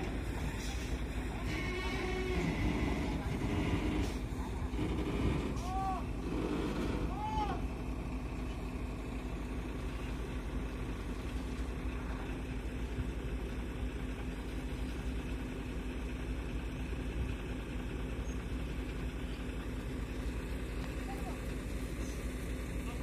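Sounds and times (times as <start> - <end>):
large engine running: 0.0 - 23.0.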